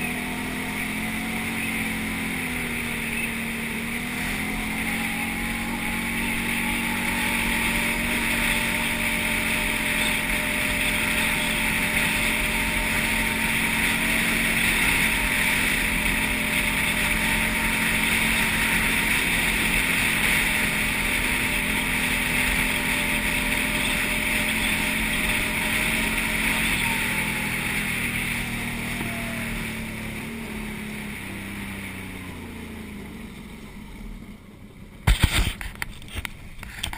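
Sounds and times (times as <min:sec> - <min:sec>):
quad bike engine running: 0:00.0 - 0:36.9.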